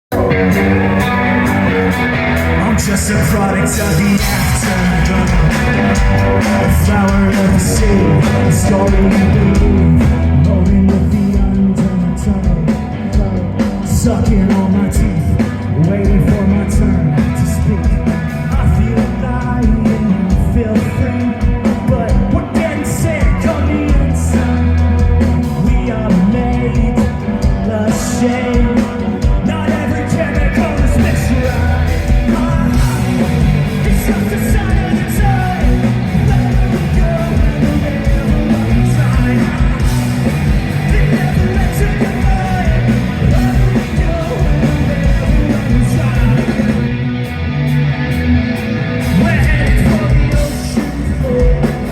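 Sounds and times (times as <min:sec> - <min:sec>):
person singing: 0:00.1 - 0:47.0, 0:49.0 - 0:51.9
rock band playing live: 0:00.1 - 0:51.9.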